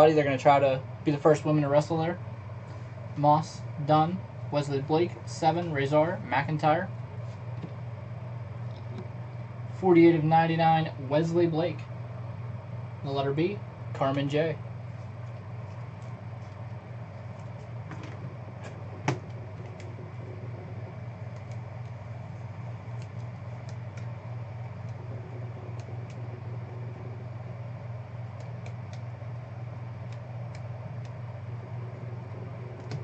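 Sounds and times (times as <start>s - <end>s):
ventilation hum: 0.0s - 33.0s.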